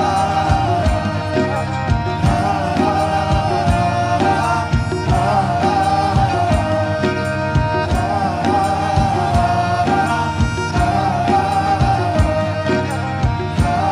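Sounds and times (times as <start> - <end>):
folk song with steady beat: 0.0 - 13.9.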